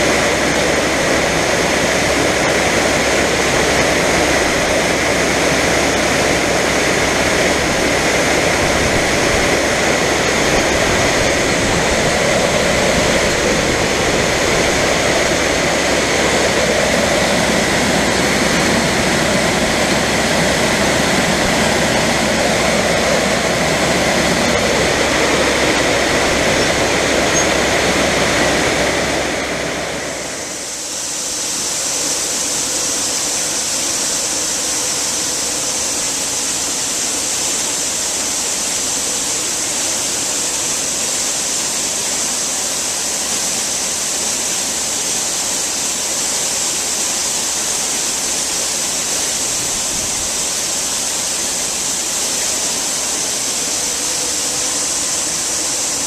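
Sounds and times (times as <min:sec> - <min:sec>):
farm machinery running: 0:00.0 - 0:56.0.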